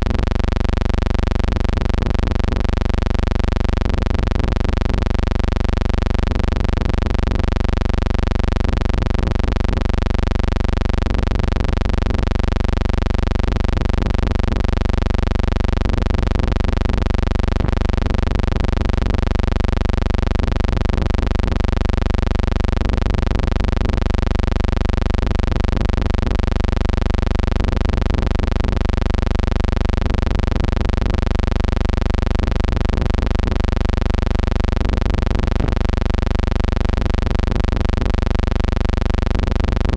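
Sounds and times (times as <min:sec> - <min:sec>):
steady hum with overtones: 0:00.0 - 0:39.9.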